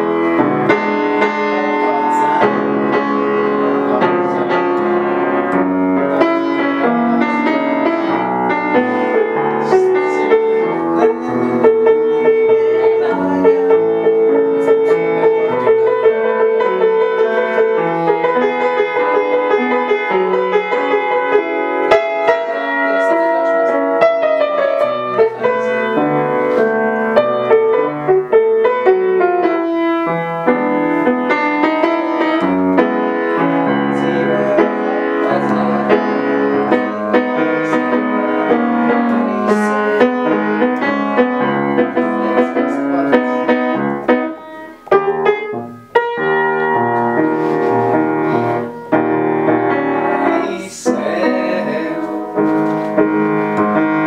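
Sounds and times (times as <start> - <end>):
upright piano playing: 0.0 - 54.0.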